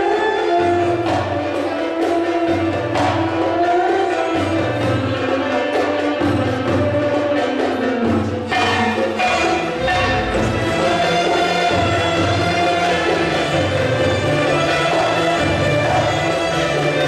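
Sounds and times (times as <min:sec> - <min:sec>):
accordion and violin melody: 0:00.0 - 0:17.0.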